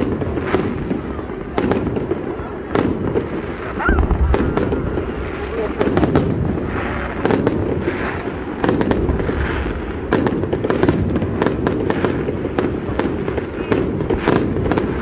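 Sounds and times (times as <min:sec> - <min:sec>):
continuous background noise: 0:00.0 - 0:15.0
fireworks bangs: 0:00.0 - 0:15.0.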